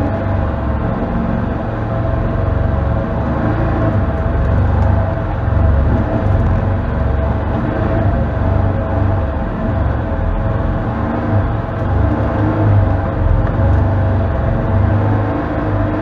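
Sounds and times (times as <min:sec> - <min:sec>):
constant whine: 0:00.0 - 0:16.0
engine low rumble: 0:00.0 - 0:16.0.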